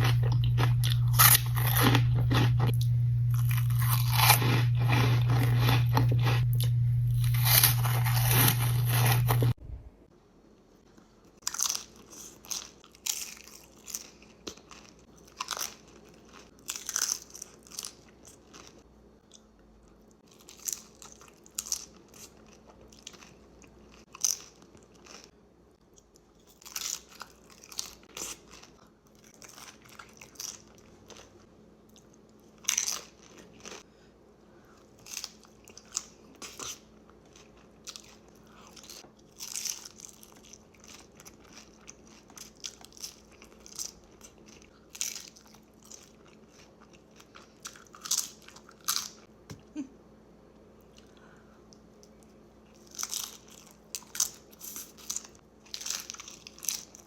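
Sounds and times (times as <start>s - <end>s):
crunchy chewing of chips: 0.0s - 9.6s, 11.0s - 34.0s, 34.6s - 49.4s, 50.6s - 57.0s.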